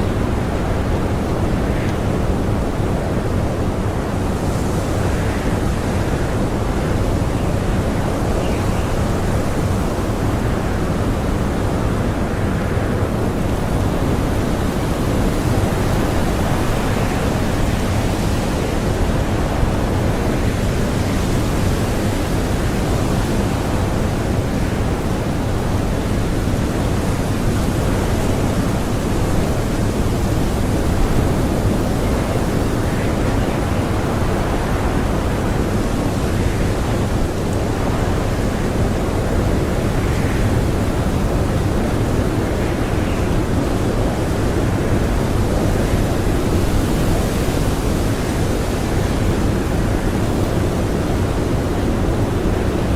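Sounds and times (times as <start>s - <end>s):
blizzard wind blowing snow: 0.0s - 52.9s.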